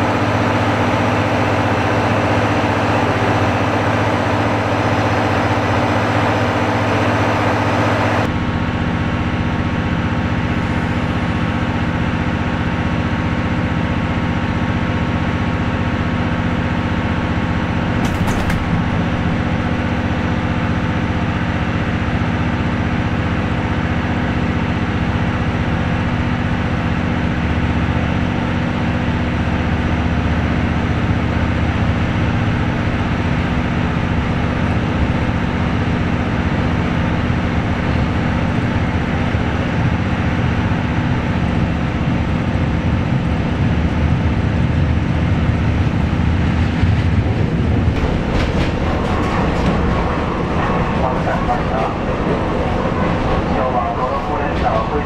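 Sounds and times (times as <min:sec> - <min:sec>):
low engine hum: 0:00.0 - 0:55.0
train rumble: 0:00.0 - 0:55.0.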